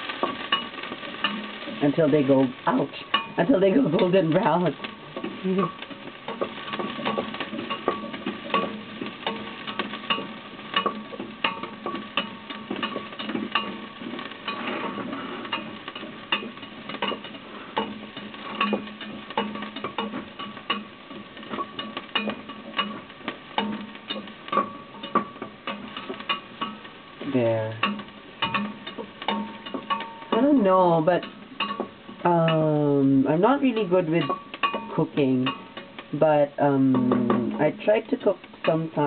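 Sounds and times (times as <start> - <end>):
utensil scraping a pan: 0.0 - 32.2
garlic and onions sizzling in oil: 0.0 - 39.0.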